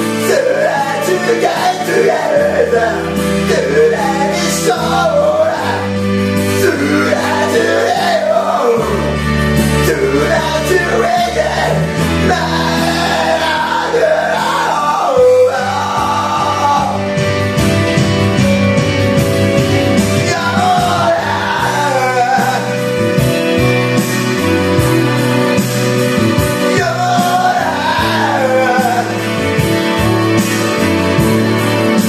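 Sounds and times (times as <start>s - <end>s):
man singing karaoke: 0.0s - 17.4s, 19.7s - 32.0s
rock backing track: 0.0s - 32.0s.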